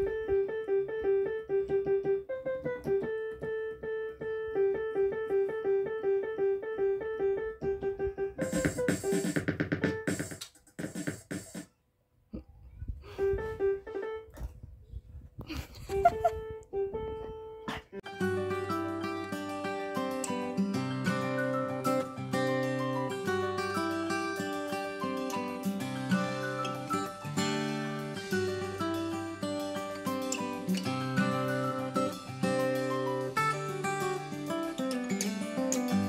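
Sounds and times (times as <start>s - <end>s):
jumble of keyboard notes: 0.0s - 11.4s, 12.5s - 36.0s
electronic keyboard repeated notes: 0.0s - 11.6s, 16.4s - 36.0s.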